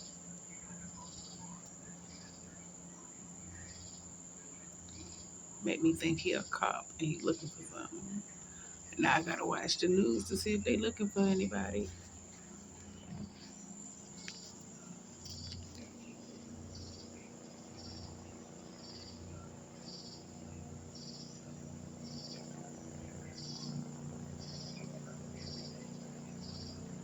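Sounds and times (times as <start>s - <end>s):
crickets chirping: 0.0s - 27.0s
distant helicopter hum: 0.0s - 27.0s.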